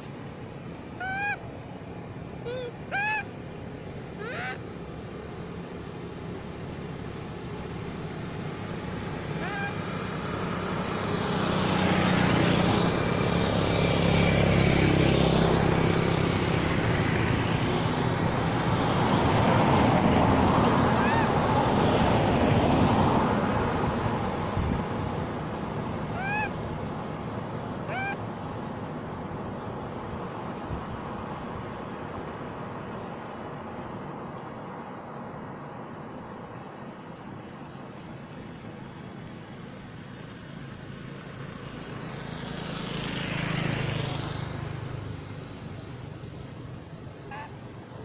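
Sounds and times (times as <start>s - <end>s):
vehicle passing by: 5.3s - 36.8s, 37.6s - 48.0s.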